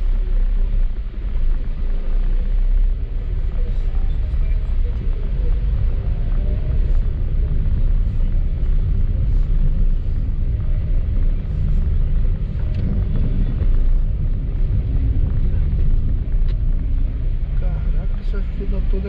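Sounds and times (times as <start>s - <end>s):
car driving on wet road: 0.0s - 19.0s.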